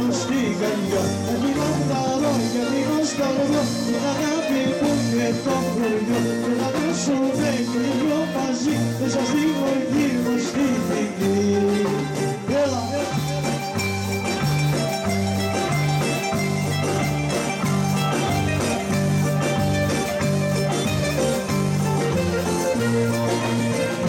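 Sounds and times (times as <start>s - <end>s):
folk dance music with clarinet: 0.0s - 24.0s.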